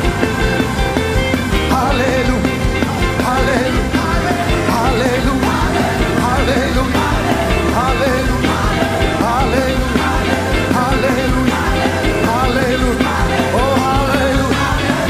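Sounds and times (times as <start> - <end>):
live band playing worship music: 0.0 - 15.0
sliding lead melody: 0.0 - 15.0
steady drum beat: 0.0 - 15.0.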